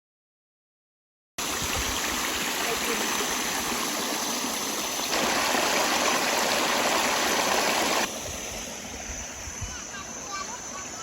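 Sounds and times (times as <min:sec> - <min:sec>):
rushing stream water: 0:01.4 - 0:11.0.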